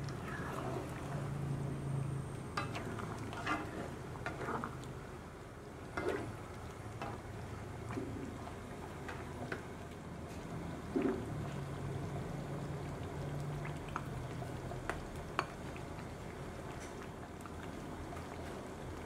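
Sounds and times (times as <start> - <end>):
stew bubbling in a pan: 0.0 - 19.0.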